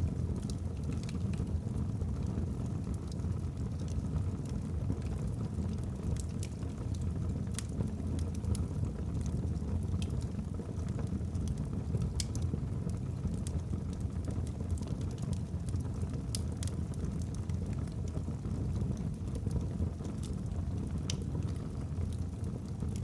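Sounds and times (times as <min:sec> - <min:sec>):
burning logs crackling: 0:00.0 - 0:23.0
low rumble of flames: 0:00.0 - 0:23.0.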